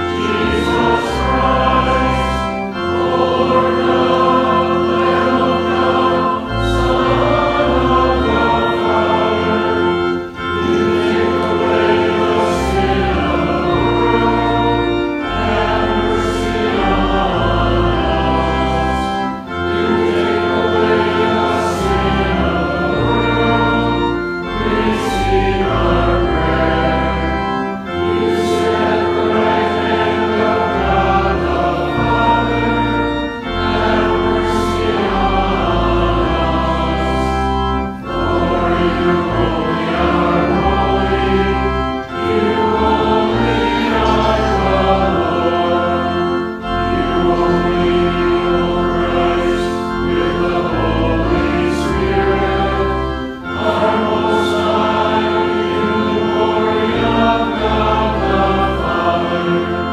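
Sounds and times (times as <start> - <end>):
choir singing a hymn: 0.0 - 59.9
organ accompaniment: 0.0 - 59.9.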